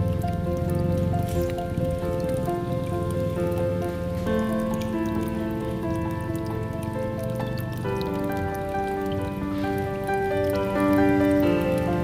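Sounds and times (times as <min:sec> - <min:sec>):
melody of held notes: 0:00.0 - 0:12.0.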